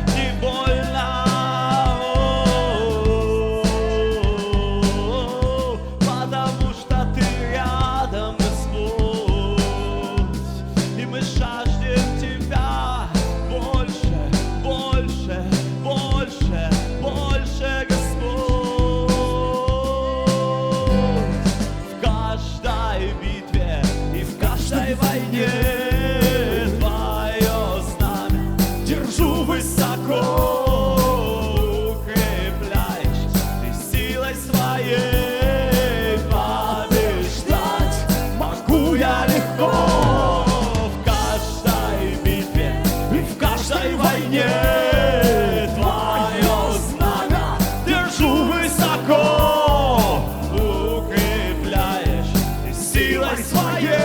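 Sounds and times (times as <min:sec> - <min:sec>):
person singing: 0:00.0 - 0:54.0
rock band playing: 0:00.0 - 0:54.0.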